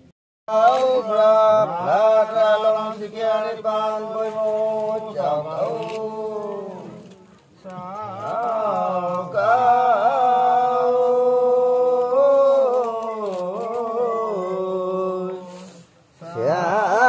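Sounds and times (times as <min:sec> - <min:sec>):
man chanting a prayer: 0:00.5 - 0:17.0.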